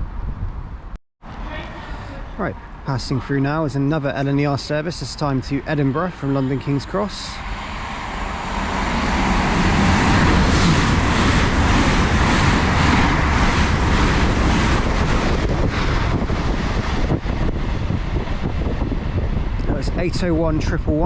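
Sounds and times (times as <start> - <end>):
wind buffeting microphone: 0.0 - 1.4, 5.3 - 21.0
train passing at speed: 1.3 - 21.0.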